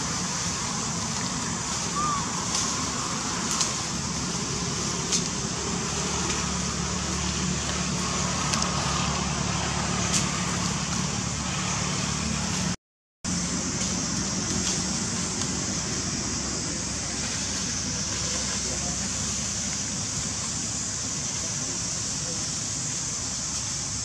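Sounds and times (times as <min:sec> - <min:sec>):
constant low hum: 0:00.0 - 0:24.0
high hiss: 0:00.0 - 0:24.0.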